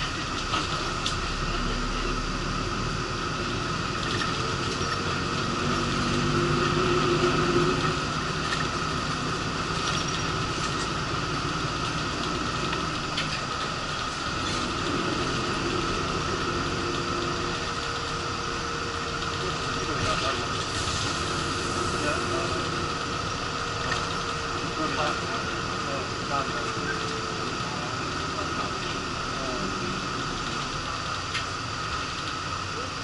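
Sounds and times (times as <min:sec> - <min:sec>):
bus engine and road noise: 0:00.0 - 0:33.0
low hum: 0:00.0 - 0:33.0.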